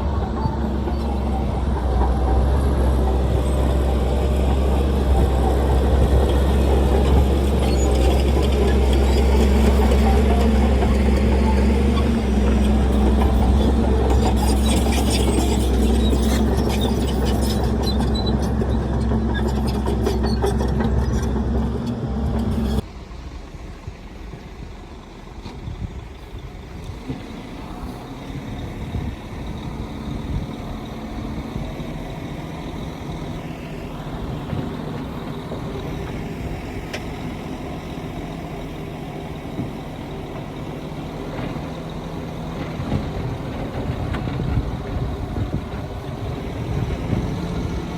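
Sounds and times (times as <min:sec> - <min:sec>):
heavy diesel engine droning: 0:00.0 - 0:47.9
quieter engine running: 0:00.0 - 0:47.9.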